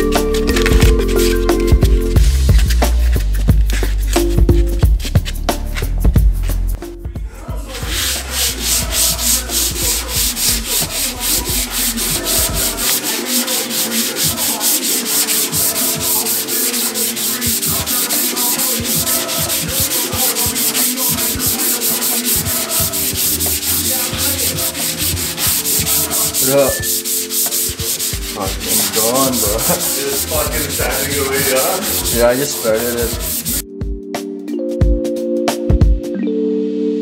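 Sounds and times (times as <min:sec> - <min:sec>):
sanding block scratching strokes: 0:00.0 - 0:06.7, 0:07.7 - 0:33.6.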